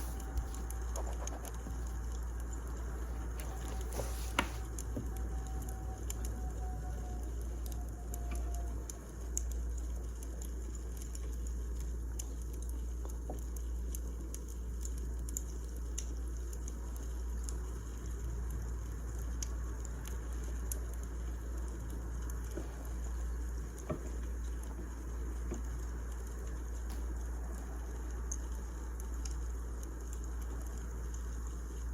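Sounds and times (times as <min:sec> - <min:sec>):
firewood crackling and popping: 0:00.0 - 0:31.9.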